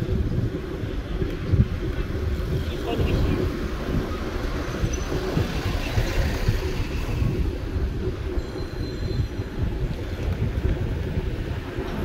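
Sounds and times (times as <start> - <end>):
electric motorbike low rumble: 0.0 - 12.0
wind buffeting microphone: 0.0 - 12.0.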